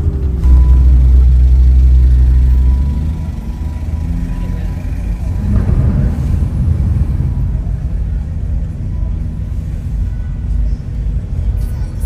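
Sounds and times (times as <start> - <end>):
car engine rumbling while driving: 0.0 - 12.0.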